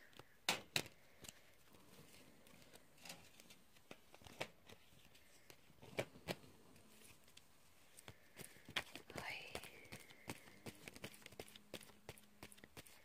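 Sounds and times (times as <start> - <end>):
cards clicking and tapping: 0.0 - 1.5, 2.5 - 6.5, 7.3 - 13.0.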